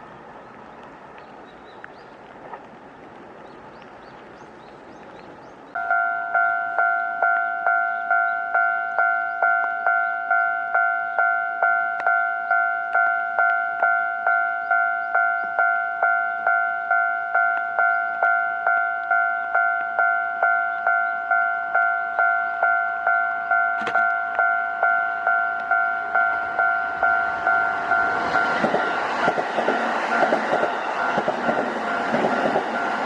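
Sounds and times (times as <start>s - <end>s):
level crossing warning bell: 5.8s - 33.0s.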